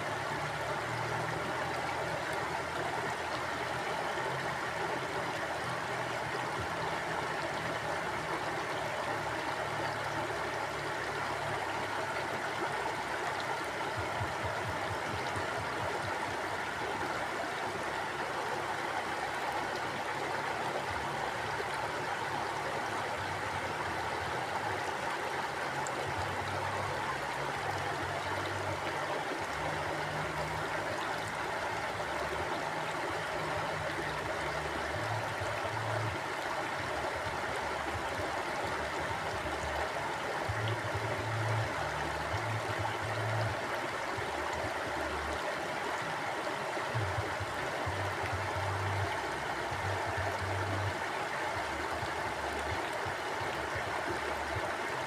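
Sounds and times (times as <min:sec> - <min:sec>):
stream gurgling over rocks: 0:00.0 - 0:55.0.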